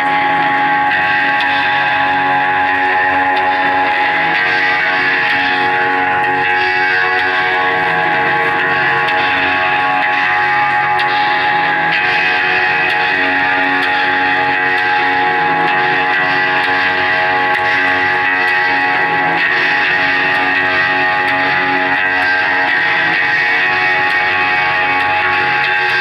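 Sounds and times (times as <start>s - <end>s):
live band with ringing guitar chords: 0.0s - 26.0s.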